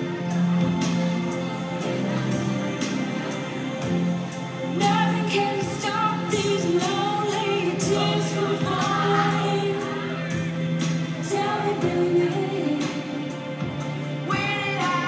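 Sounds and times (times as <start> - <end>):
music with singing over a beat: 0.0 - 15.0.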